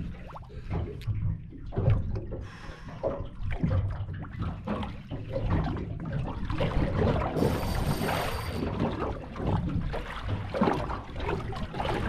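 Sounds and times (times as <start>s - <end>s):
water slapping boat hull: 0.0s - 12.0s.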